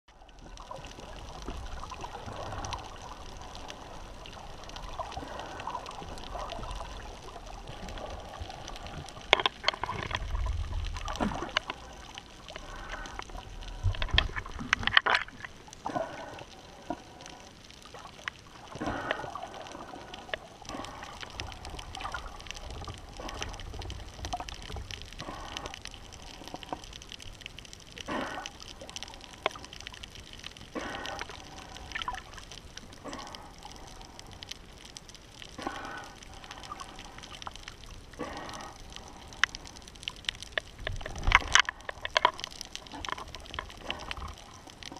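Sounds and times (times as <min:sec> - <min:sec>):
muffled underwater sloshing and bubbling: 0:00.1 - 0:44.9
water splashing: 0:00.1 - 0:44.9.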